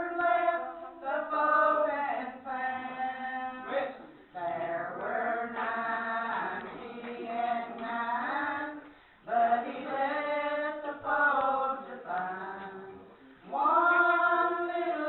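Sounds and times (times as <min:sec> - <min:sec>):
women singing a worship song: 0:00.0 - 0:15.0.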